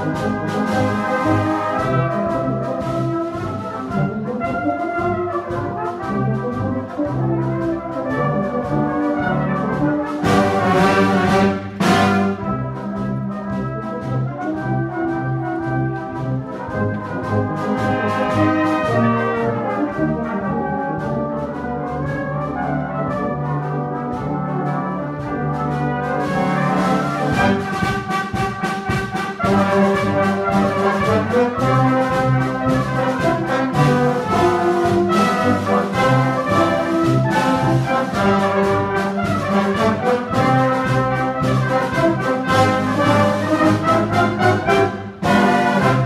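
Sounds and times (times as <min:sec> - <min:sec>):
brass band playing a march: 0:00.0 - 0:46.0.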